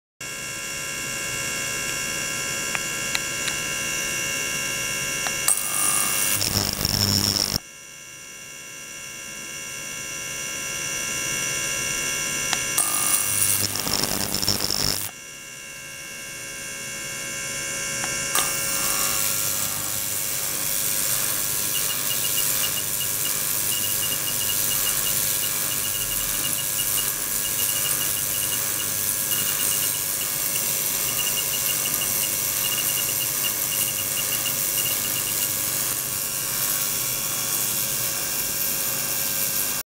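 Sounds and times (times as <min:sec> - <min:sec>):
electrical hum and whine: 0:00.3 - 0:38.6.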